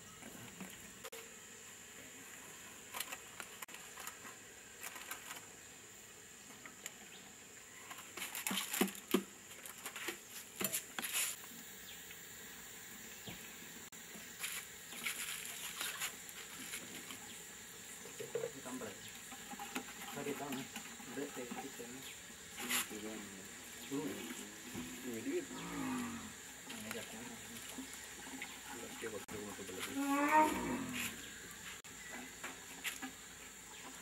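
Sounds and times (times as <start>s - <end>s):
high-pitched hiss: 0.0s - 34.0s.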